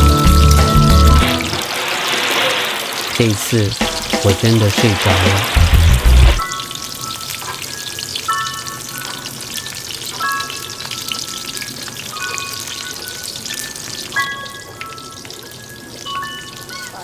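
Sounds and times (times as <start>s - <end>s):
eggplant frying in oil: 0.0s - 17.0s.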